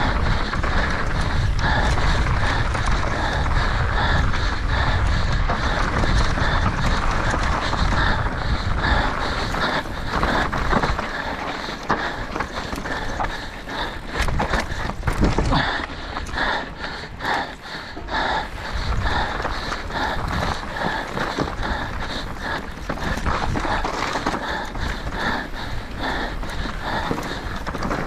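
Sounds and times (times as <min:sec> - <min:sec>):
bike knocking and rattling: 0:00.0 - 0:28.0
heavy breathing: 0:00.0 - 0:28.0
wind rush on microphone: 0:00.0 - 0:28.0
tyres crunching over stones: 0:05.5 - 0:28.0.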